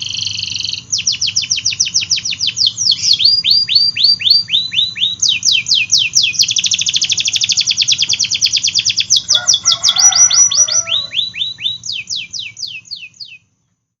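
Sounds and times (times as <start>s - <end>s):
canary singing: 0.0s - 13.5s.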